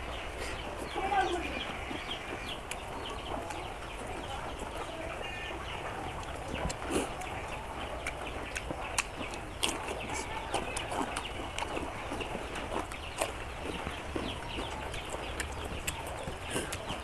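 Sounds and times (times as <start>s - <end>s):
chickens clucking: 0.0s - 17.0s
mouth chewing noises: 0.0s - 17.0s.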